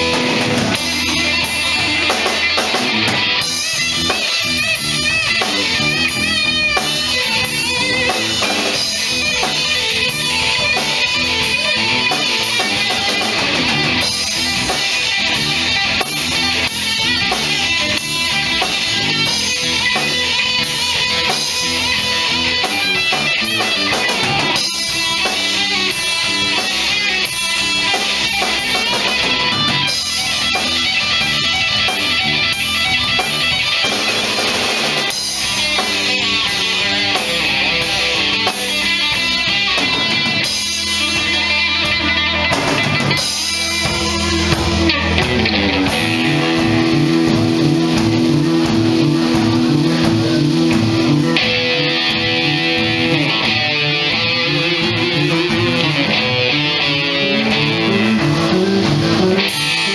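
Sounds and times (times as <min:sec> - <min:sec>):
live guitar band music: 0:00.0 - 0:59.9.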